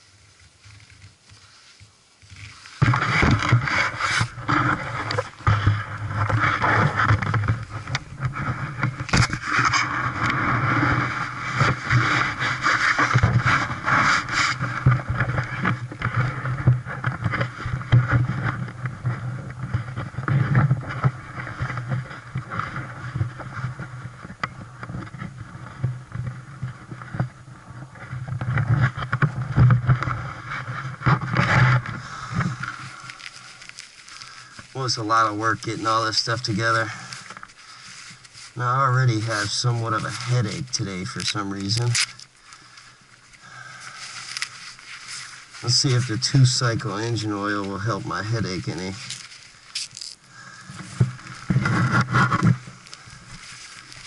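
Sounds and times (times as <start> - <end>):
camera rubbing and knocking: 2.3 - 42.3, 44.1 - 54.0.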